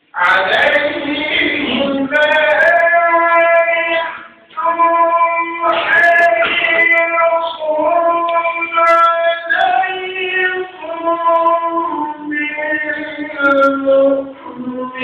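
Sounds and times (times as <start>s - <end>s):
person singing devotional song: 0.1s - 15.0s.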